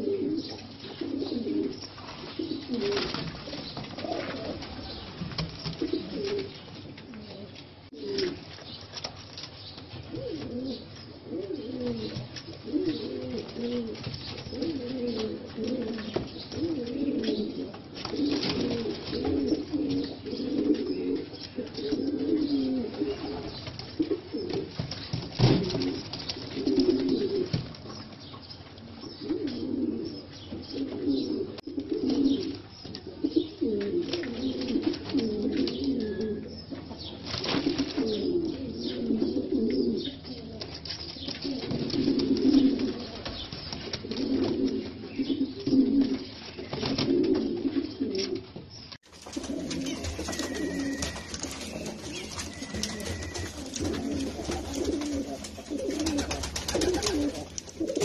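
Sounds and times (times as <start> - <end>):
pigeons cooing: 0.0 - 8.5, 10.0 - 28.1, 28.8 - 48.6, 49.2 - 58.0.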